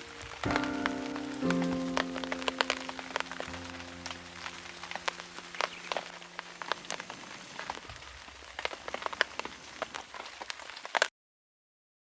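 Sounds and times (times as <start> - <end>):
rain falling: 0.0 - 11.1.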